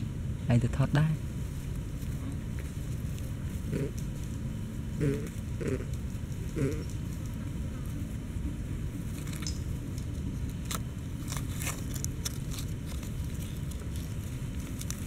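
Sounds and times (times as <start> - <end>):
dry leaves crackling: 1.2 - 15.0.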